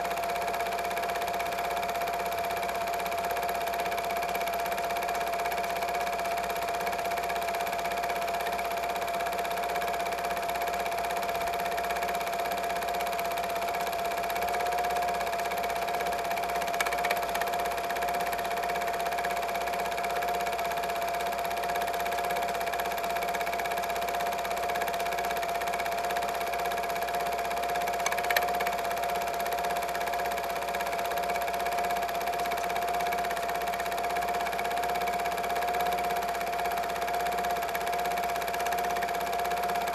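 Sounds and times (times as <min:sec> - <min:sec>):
small motor whirring: 0:00.0 - 0:39.9.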